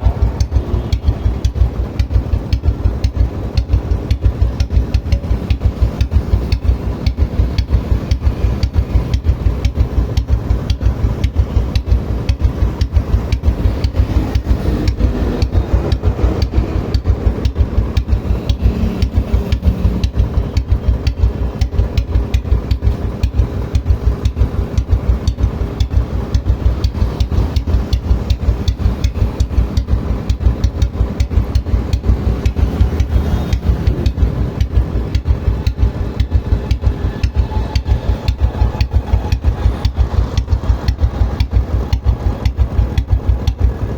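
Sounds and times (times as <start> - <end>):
single-cylinder engine idling: 0.0 - 43.9.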